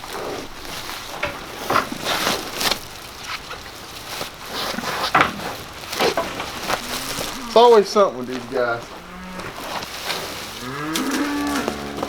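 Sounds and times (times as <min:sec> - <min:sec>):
crunchy scuffs: 0:00.0 - 0:12.0
rustling in loose bedding: 0:00.0 - 0:12.0.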